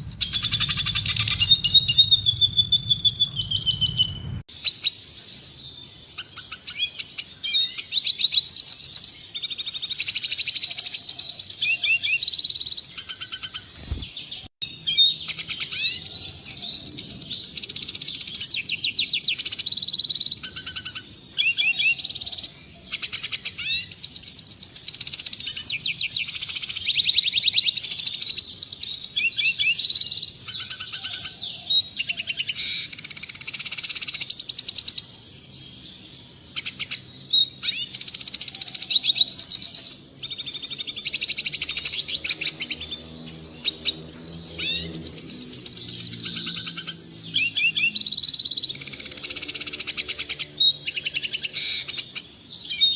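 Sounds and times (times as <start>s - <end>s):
bird twittering song: 0.0s - 52.9s.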